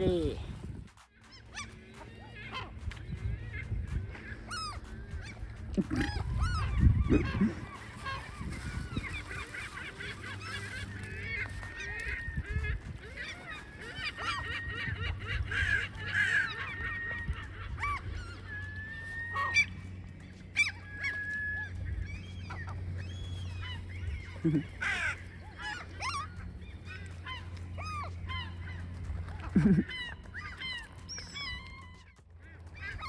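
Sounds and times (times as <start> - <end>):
seagulls calling: 0.0 - 33.0.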